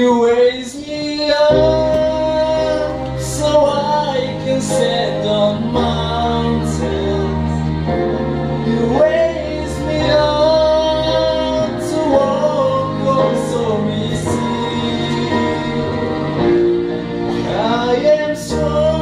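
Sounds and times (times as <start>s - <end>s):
man singing slow song: 0.0s - 7.6s, 8.6s - 16.1s, 17.3s - 19.0s
backing track with bass chords: 0.0s - 19.0s.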